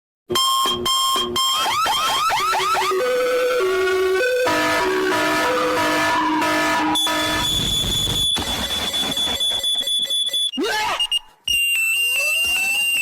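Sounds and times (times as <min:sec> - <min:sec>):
shrill electronic alarm tone: 0:00.4 - 0:13.0.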